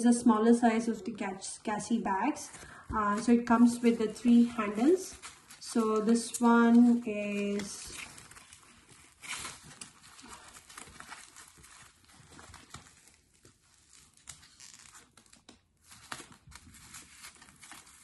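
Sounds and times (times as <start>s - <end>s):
plastic wrap rustling: 0.6s - 18.0s.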